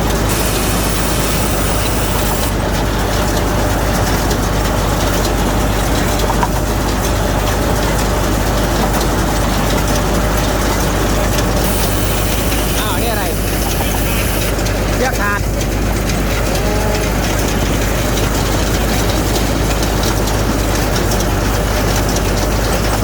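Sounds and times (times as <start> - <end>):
heavy engine running: 0.0 - 23.0.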